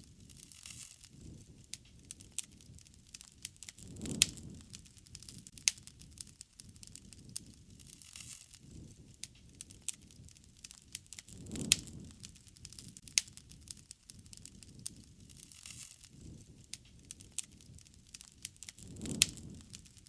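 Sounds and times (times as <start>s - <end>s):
soft rush of flame: 0.0s - 20.0s
wood fire popping and snapping: 0.0s - 20.0s.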